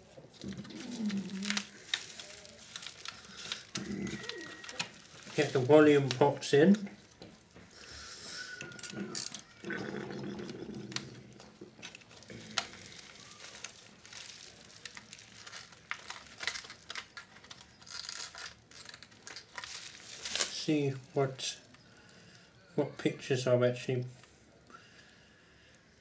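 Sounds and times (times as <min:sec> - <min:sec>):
bubble wrap crinkling: 0:00.0 - 0:22.4.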